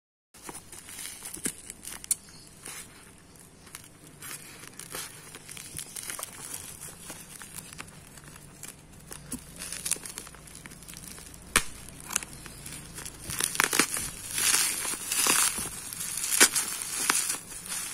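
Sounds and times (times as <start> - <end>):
bubble wrap crinkling: 0.4 - 17.9.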